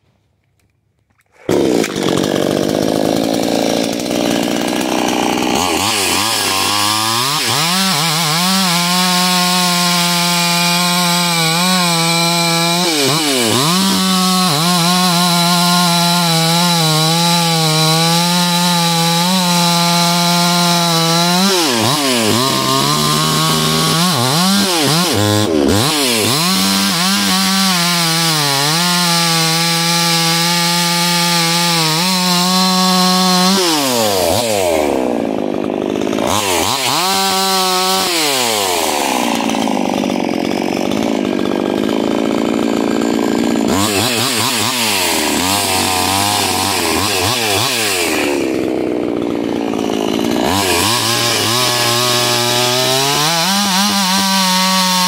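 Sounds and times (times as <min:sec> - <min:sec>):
chainsaw cutting wood: 0:01.1 - 0:55.0.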